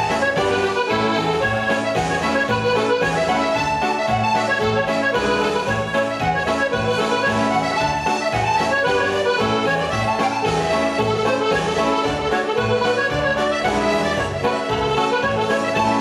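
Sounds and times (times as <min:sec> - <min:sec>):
accordion dance music: 0:00.0 - 0:16.0.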